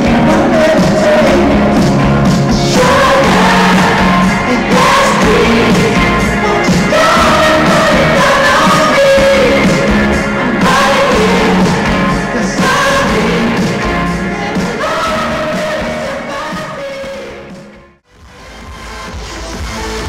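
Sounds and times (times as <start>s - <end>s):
live pop music with male vocal: 0.0s - 17.7s.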